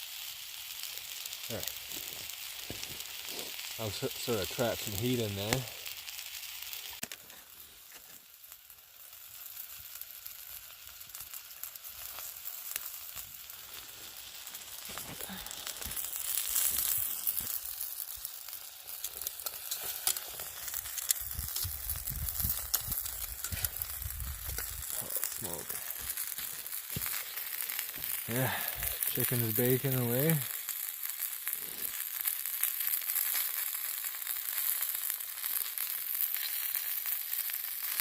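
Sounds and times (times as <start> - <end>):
chicken sizzling on hot rock: 0.0 - 38.0
fire crackles and pops: 0.0 - 38.0.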